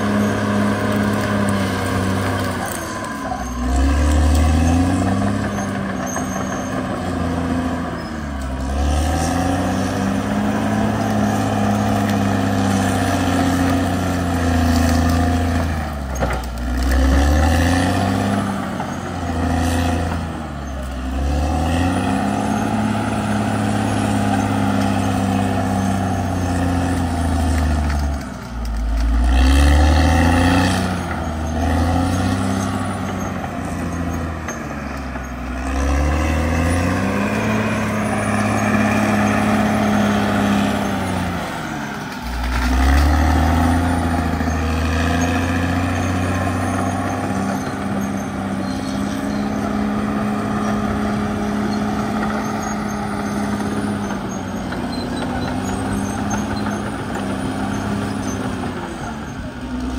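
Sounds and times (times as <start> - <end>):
bulldozer diesel engine running hard: 0.0 - 59.9.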